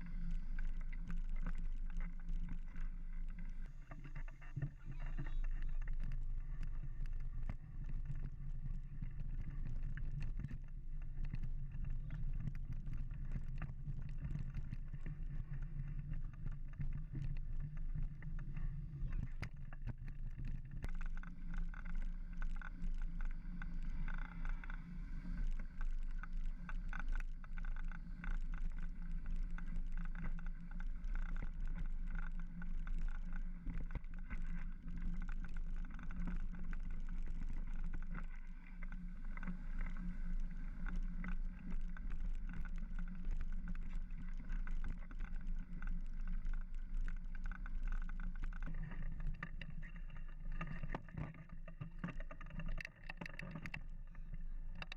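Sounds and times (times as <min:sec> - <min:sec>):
bike tyre rumble: 0:00.0 - 0:51.0.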